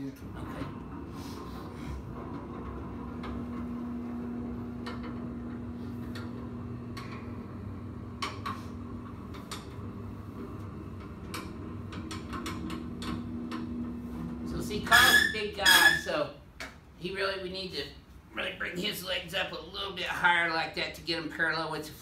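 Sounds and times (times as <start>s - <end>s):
steady hum: 0.0s - 21.3s.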